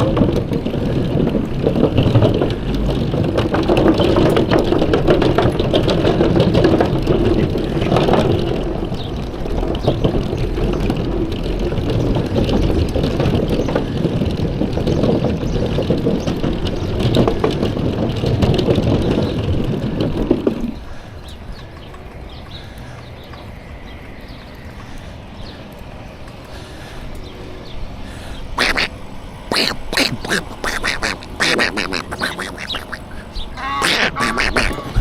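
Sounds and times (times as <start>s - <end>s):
bicycle rolling noise: 0.0s - 35.0s
wind: 0.0s - 35.0s.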